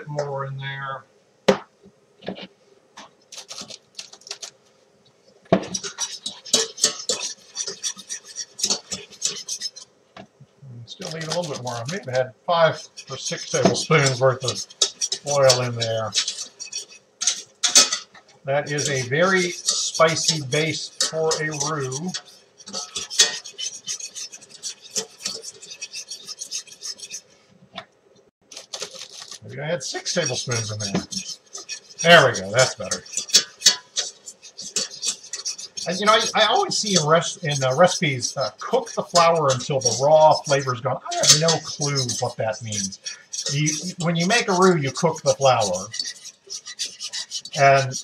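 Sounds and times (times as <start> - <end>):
whisk scraping a saucepan: 2.3 - 4.7, 5.4 - 27.8, 28.4 - 48.0.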